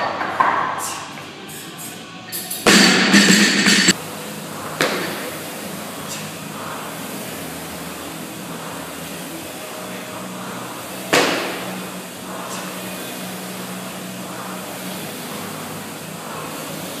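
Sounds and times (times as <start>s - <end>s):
steady low hum: 0.7s - 17.0s.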